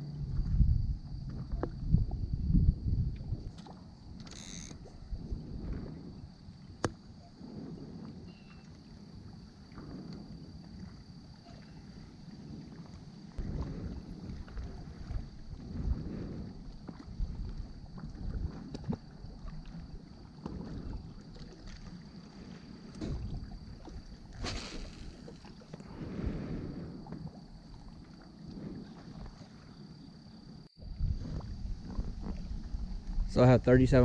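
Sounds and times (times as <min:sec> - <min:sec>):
wind rumbling on microphone: 0:00.0 - 0:34.0.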